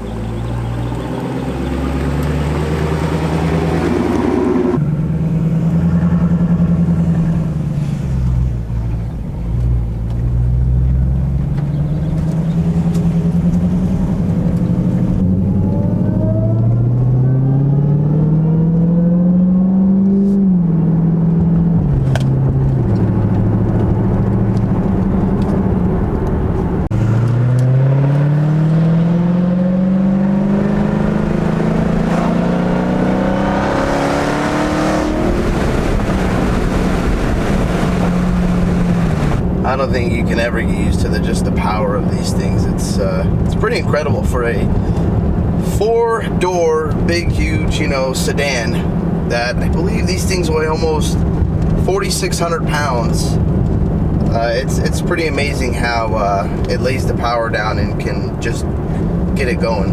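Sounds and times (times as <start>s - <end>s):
loud car exhaust accelerating: 0.0s - 59.9s.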